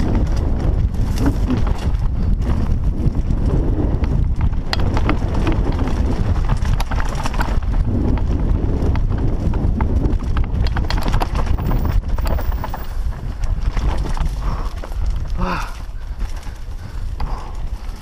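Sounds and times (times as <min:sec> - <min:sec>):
bike rattles and knocks: 0:00.0 - 0:18.0
wind and tyre rumble: 0:00.0 - 0:18.0.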